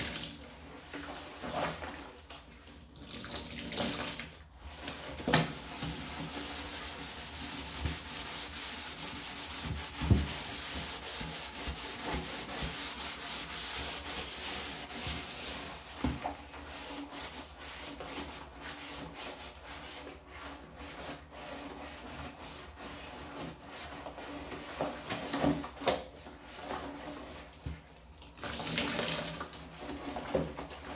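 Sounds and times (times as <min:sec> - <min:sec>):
scrubbing plastic bin: 0:00.0 - 0:30.9.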